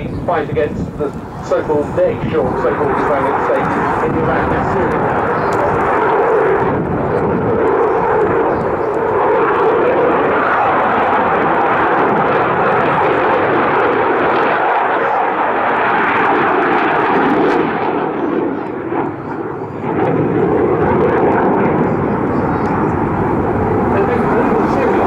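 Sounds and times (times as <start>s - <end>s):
loud jet noise: 0.0s - 25.0s.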